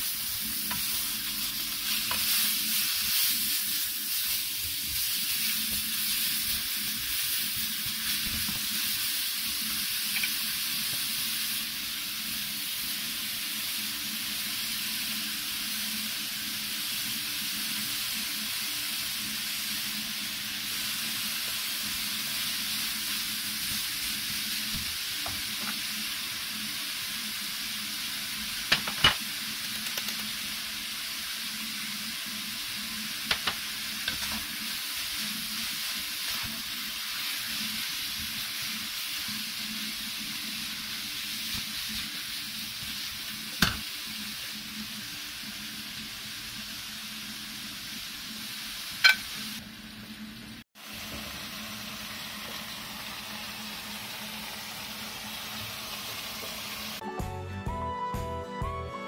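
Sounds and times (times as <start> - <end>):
vegetables sizzling in a frying pan: 0.0 - 57.0.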